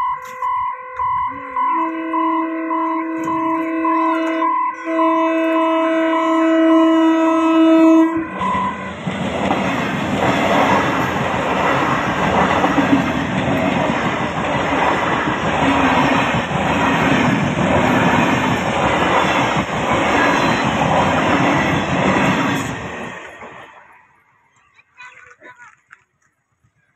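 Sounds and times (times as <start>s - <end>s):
train passing at speed: 0.0s - 24.5s.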